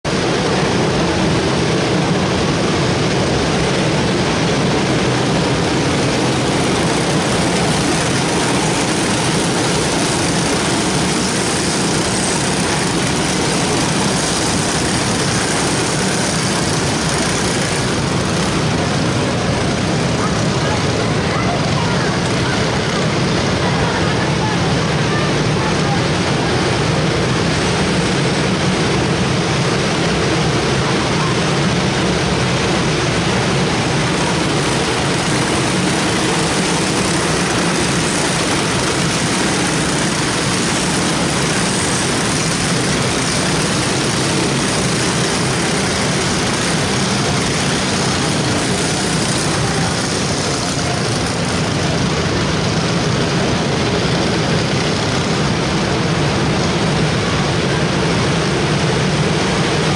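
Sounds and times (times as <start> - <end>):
kart engines droning: 0.0 - 59.9.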